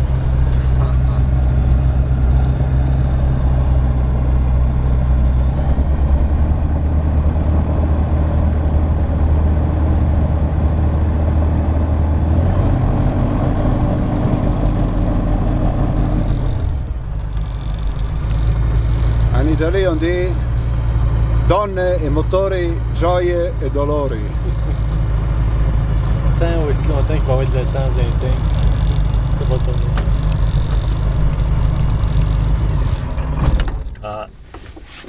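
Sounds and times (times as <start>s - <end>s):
piston aircraft engine running: 0.0s - 34.8s.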